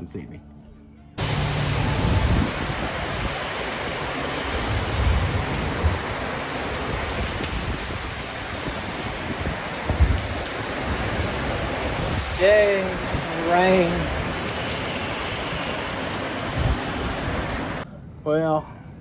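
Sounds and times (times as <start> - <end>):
heavy rain pouring: 1.2 - 17.8.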